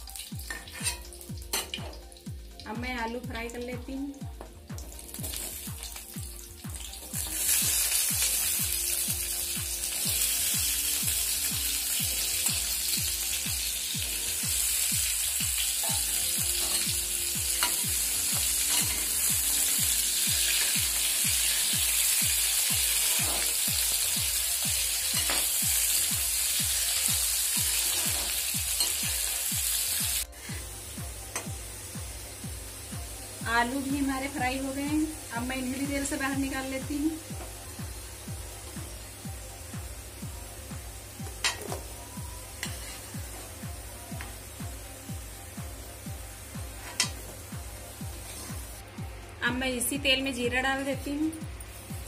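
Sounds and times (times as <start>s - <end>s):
potatoes sizzling in hot oil: 0.0s - 2.8s, 4.7s - 48.8s.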